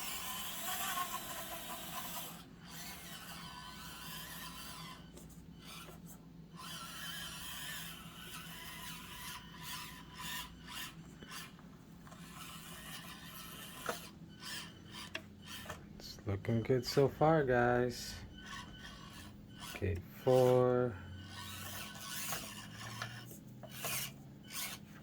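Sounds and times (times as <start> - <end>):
small electric motor whine: 0.0 - 25.0.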